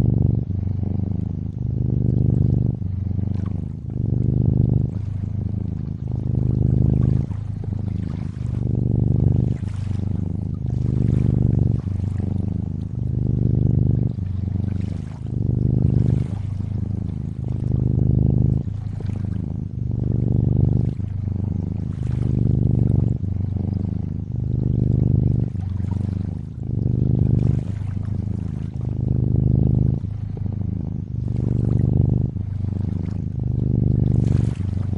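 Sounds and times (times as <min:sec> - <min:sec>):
cat purring: 0:00.0 - 0:34.9
faint lapping water: 0:00.0 - 0:34.9.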